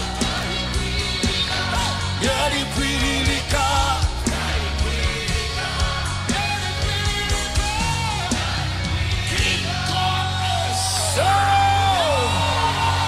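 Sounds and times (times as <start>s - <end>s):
live worship band music: 0.0s - 13.0s
voices singing held notes: 0.0s - 13.0s.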